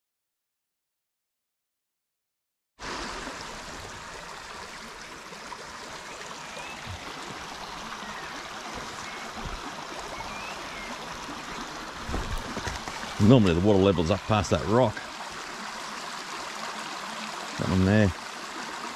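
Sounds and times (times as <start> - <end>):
creek trickling over stones: 2.8 - 18.9.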